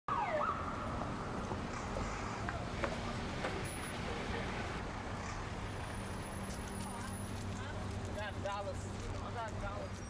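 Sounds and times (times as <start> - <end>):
low traffic hum: 0.1 - 10.0.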